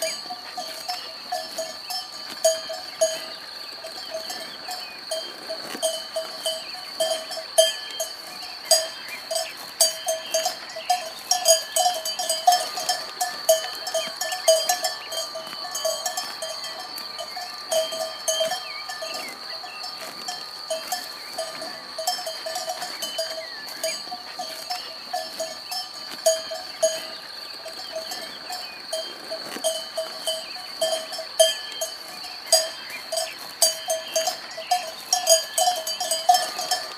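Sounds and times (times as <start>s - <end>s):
cattle bells clanking: 0.0s - 36.9s.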